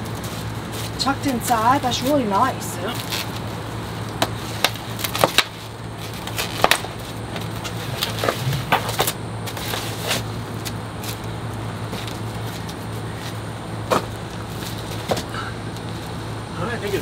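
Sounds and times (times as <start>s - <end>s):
plastic packing wrap crinkling: 0.0s - 16.1s
steady low hum: 0.0s - 17.0s.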